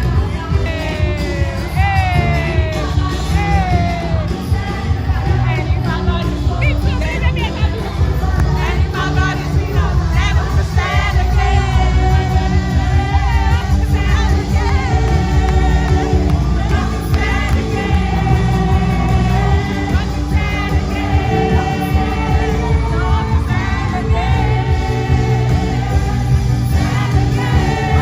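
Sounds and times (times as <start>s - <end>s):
heavy bass line: 0.0s - 28.0s
worship music with singing: 0.0s - 28.0s.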